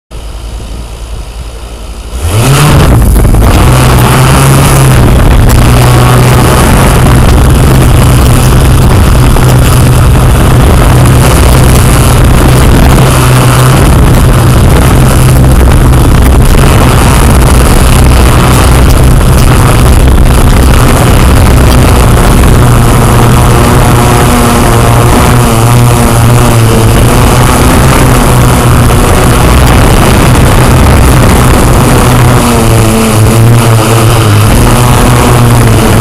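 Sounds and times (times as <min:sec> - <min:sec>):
drone propellers whirring: 0:00.2 - 0:36.0.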